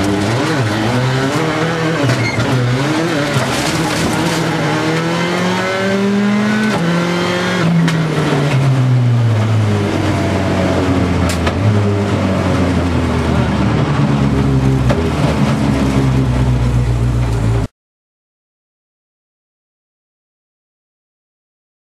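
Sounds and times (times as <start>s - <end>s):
rally car engine revving: 0.0s - 17.7s.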